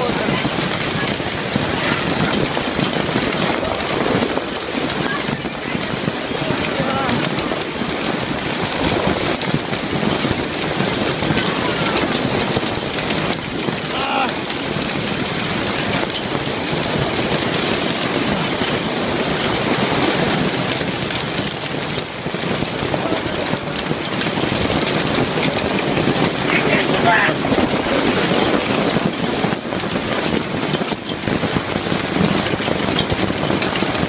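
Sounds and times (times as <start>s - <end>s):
hail and heavy rain pelting: 0.0s - 34.0s.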